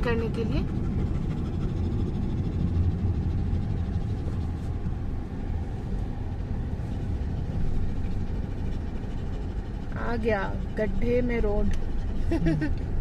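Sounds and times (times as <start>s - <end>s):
car rumbling on rough road: 0.0s - 13.0s.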